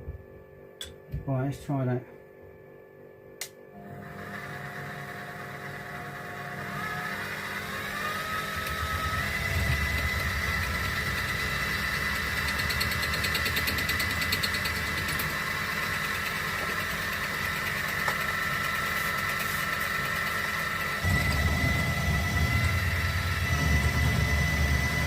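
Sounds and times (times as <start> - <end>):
metal lathe running: 3.9 - 25.0.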